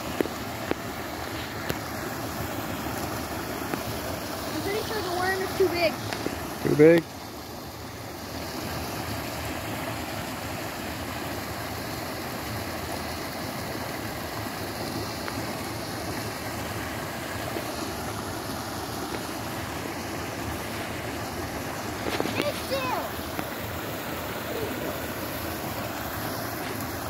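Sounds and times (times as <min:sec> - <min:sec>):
creek water pouring into pool: 0:00.0 - 0:27.0.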